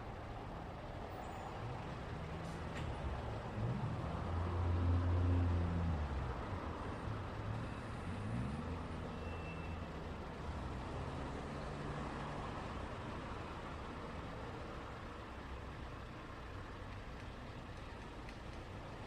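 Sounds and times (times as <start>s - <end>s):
tyre and road hum: 0.0s - 19.0s
vehicle engines running: 0.0s - 19.0s.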